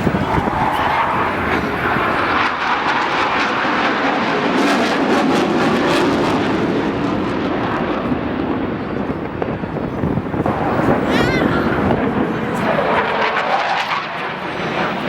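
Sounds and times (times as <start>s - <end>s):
loud jet engine noise: 0.0s - 15.0s.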